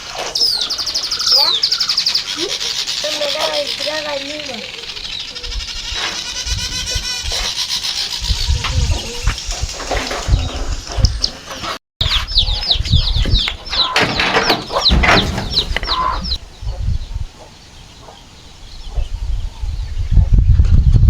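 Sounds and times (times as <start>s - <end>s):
chickens clucking and peeping: 0.0s - 21.0s.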